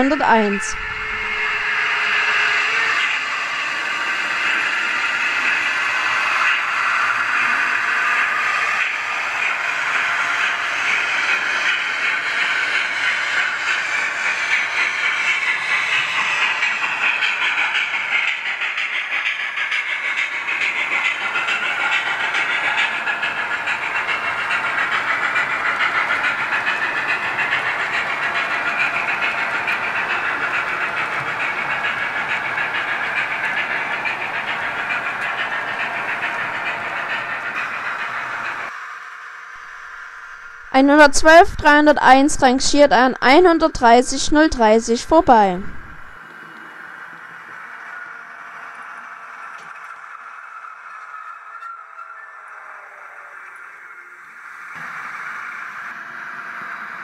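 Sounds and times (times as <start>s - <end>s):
model train motor whining: 0.4s - 40.7s, 45.3s - 57.0s
wheels rolling on rails: 0.7s - 41.6s, 45.6s - 57.0s.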